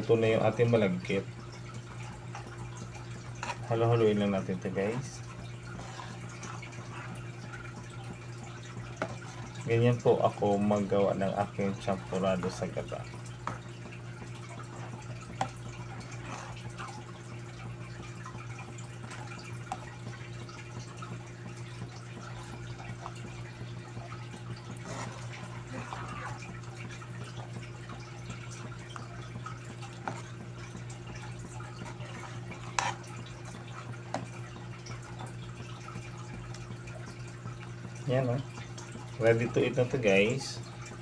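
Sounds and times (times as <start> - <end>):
steady low hum: 0.0 - 41.0
porridge plopping and scraping: 1.5 - 38.0.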